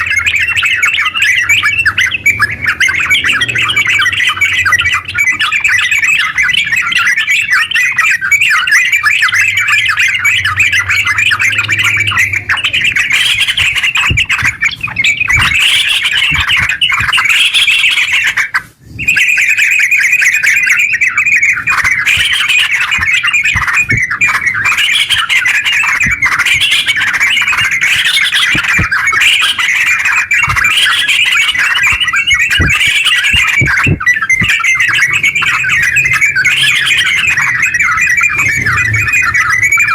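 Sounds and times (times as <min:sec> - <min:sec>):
bulbul singing rapid chattering song: 0:00.0 - 0:39.9.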